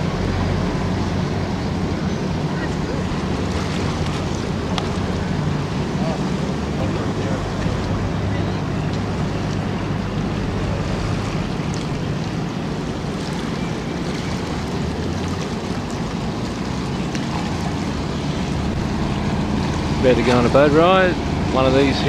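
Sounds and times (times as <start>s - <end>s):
boat engine humming: 0.0s - 22.0s
water washing: 0.0s - 22.0s.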